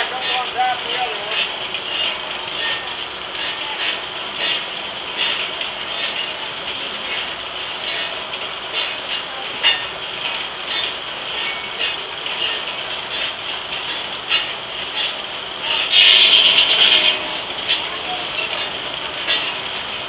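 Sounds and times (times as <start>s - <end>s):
sawmill blade clattering: 0.0s - 20.0s.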